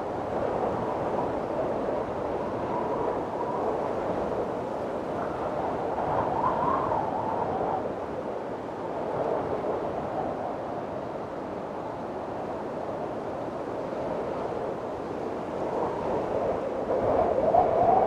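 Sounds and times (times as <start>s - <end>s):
wind blowing in gusts: 0.0s - 18.0s.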